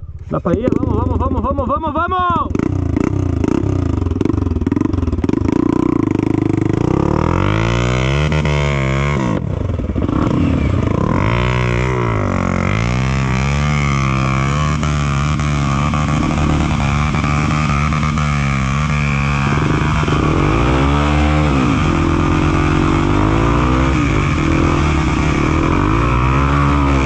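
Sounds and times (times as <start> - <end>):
motorcycle engine revving: 0.4 - 27.0.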